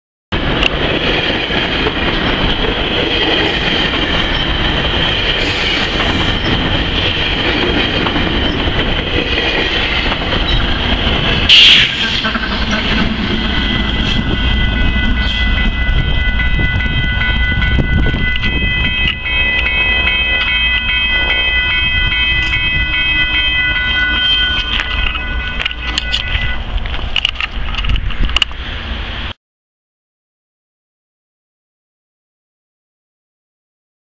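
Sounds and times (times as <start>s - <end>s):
train passing with loud rumble: 0.3s - 29.4s.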